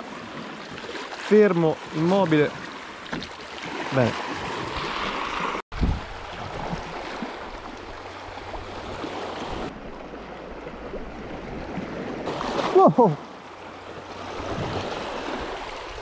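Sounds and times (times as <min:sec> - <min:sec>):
sea water lapping around rock: 0:00.0 - 0:16.0.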